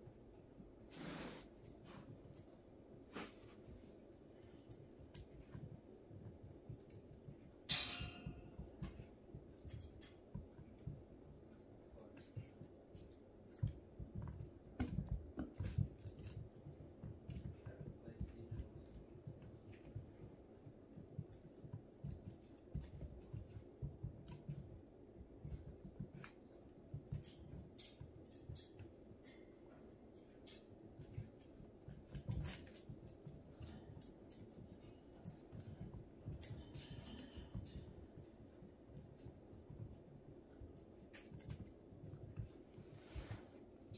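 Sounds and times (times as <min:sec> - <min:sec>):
paws scratching on mesh: 0:00.4 - 0:43.9.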